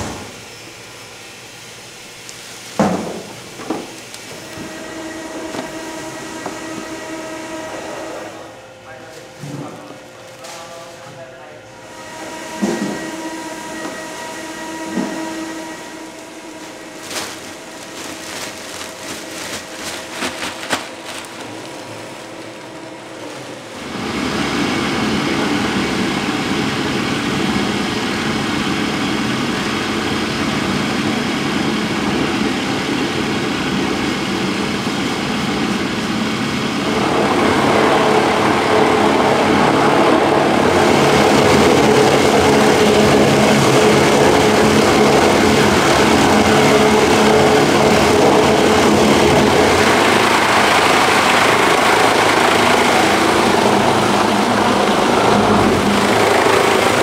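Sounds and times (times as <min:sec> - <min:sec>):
bowl cutter machine running: 0:00.0 - 0:57.0.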